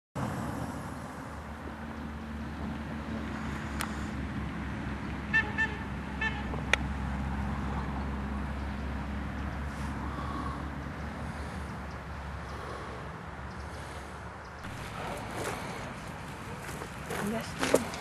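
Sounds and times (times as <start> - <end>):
car driving rumble: 0.2 - 18.0.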